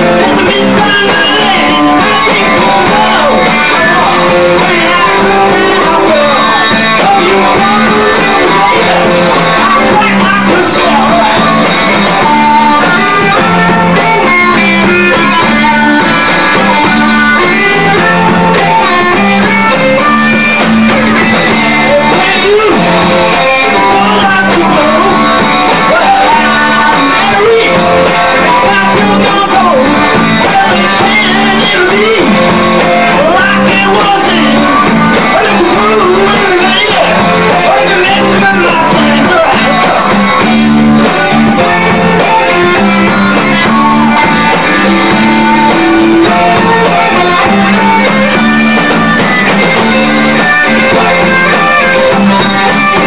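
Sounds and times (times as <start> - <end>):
lead guitar bent notes: 0.0 - 53.0
rock band playing live: 0.0 - 53.0.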